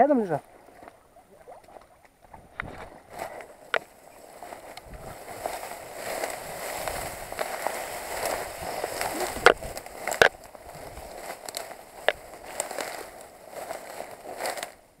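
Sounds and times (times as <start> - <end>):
rustling through dry reeds: 0.5 - 15.0.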